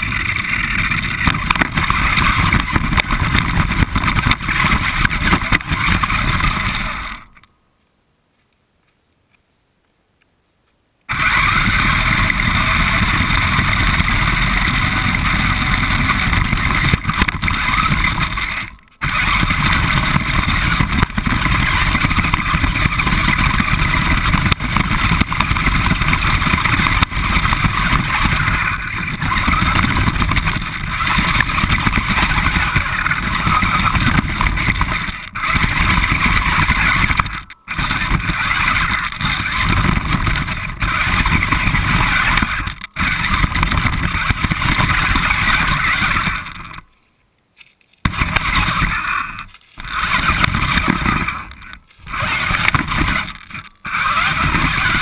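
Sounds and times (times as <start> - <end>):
rc car motor running: 0.0 - 7.5, 11.1 - 46.9, 48.0 - 55.0.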